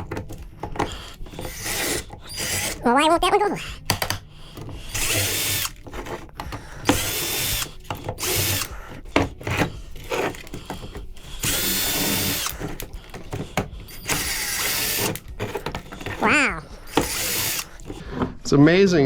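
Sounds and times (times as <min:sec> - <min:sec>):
handling clatter: 0:00.0 - 0:18.0
power drill whining: 0:00.0 - 0:18.0.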